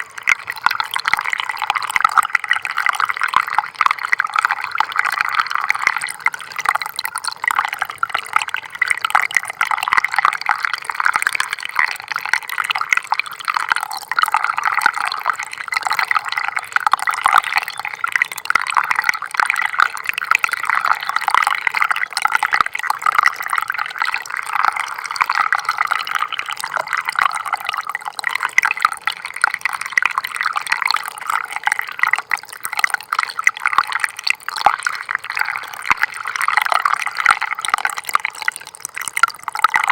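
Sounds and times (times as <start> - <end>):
stream of water trickling: 0.0 - 39.9.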